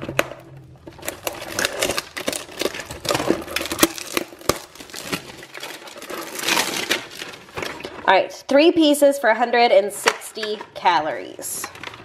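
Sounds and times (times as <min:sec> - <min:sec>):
crinkling: 0:00.0 - 0:08.2, 0:10.0 - 0:12.0.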